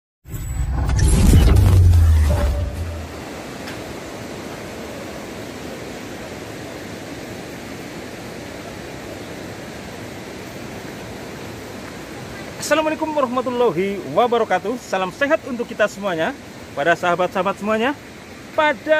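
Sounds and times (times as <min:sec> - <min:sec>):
waterfall rushing: 0:01.7 - 0:18.9.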